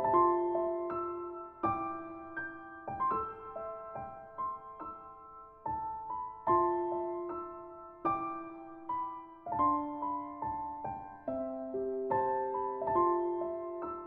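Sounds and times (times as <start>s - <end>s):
slow gentle piano: 0.0s - 14.0s.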